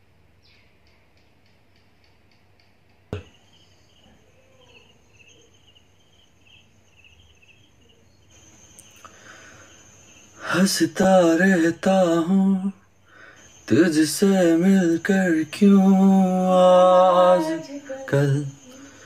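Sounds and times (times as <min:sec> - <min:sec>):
faint insect-like chirping: 0:00.4 - 0:19.0.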